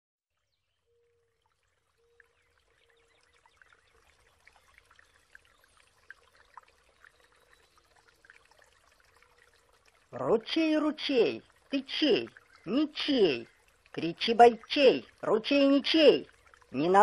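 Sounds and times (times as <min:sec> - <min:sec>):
brook trickling: 0:00.3 - 0:17.0
water plops and splashes: 0:01.1 - 0:17.0.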